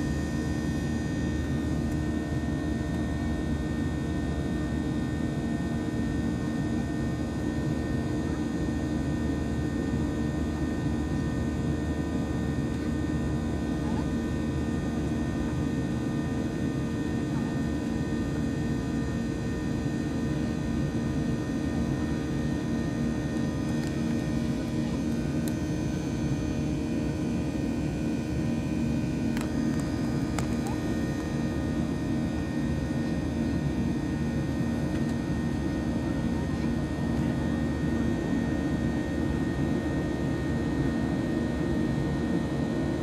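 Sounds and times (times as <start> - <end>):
airplane cabin engine drone: 0.0 - 43.0.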